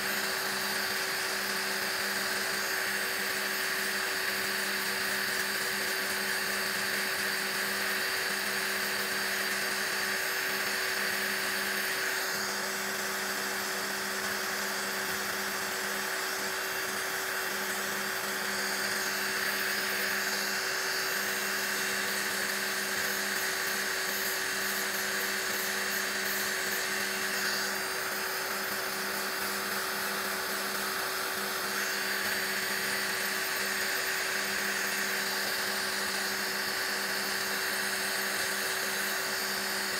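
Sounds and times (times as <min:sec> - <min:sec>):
drill bit grinding nail: 0:00.0 - 0:39.9
electric nail drill humming: 0:00.0 - 0:39.9.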